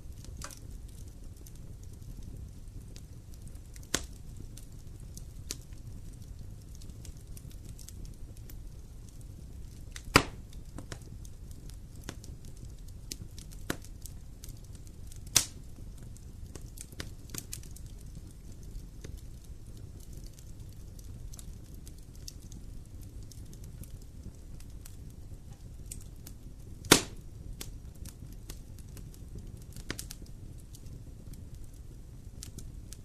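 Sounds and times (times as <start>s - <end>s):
campfire crackling: 0.0s - 33.0s
loud fire pops: 0.0s - 33.0s.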